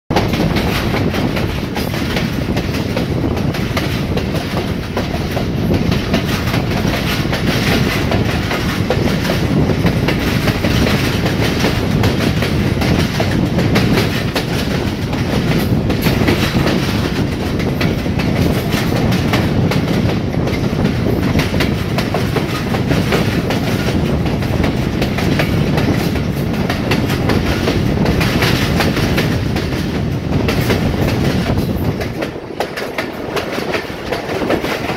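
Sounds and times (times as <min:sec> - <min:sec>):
train wheels clattering over rails: 0:00.1 - 0:34.9.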